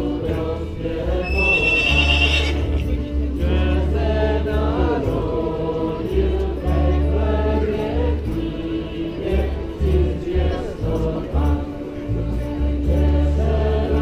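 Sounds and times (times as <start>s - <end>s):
group singing a carol: 0.0s - 14.0s.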